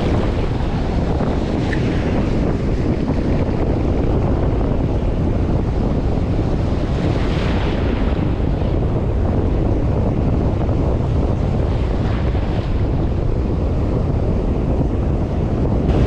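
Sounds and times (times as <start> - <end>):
ocean surf: 0.0 - 16.0
wind buffeting microphone: 0.0 - 16.0.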